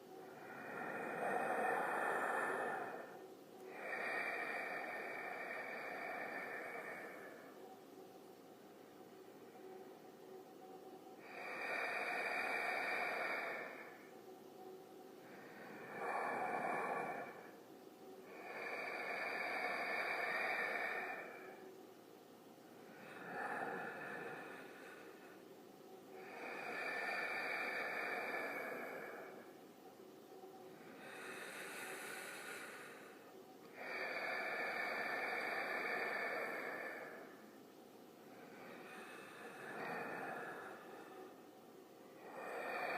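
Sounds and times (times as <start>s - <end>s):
slow heavy breathing: 0.0s - 42.9s.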